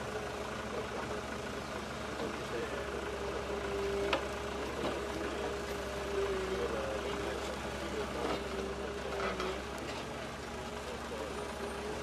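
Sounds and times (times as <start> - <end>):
excavator diesel engine whine: 0.0 - 12.0.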